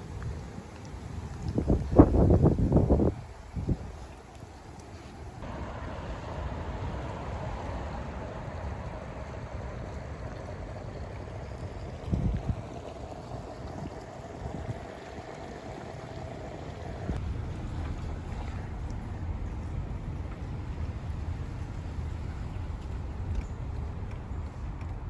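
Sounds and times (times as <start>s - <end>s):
wind buffeting microphone: 0.0s - 5.4s, 9.4s - 25.0s
faint steady hum: 0.0s - 25.0s
rushing water: 0.0s - 25.0s
wind: 0.0s - 25.0s.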